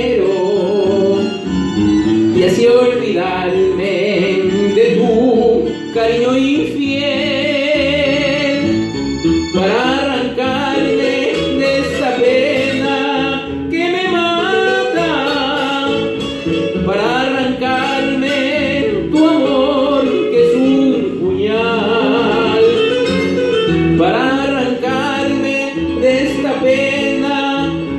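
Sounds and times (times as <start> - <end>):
man singing into microphone: 0.0 - 1.5, 2.3 - 8.9, 9.5 - 27.9
guitar backing: 0.0 - 27.9.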